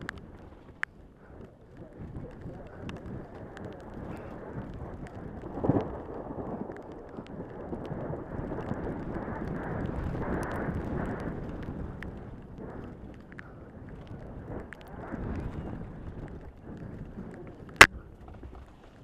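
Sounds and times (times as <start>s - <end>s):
bike rattling and clicking: 0.0s - 19.0s
wind rushing over microphone: 0.0s - 19.0s.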